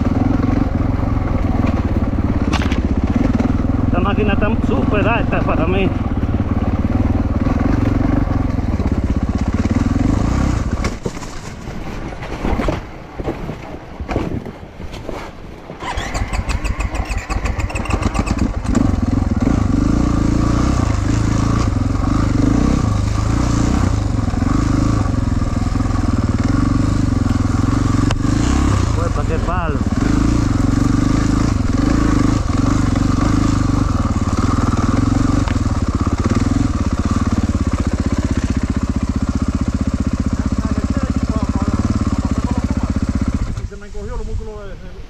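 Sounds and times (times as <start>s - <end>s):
motorcycle engine revving: 0.0s - 11.2s, 15.8s - 44.6s.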